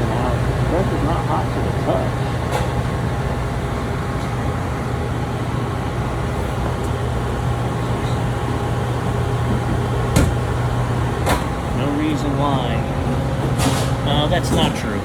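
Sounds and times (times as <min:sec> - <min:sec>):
refrigeration hum: 0:00.0 - 0:15.0.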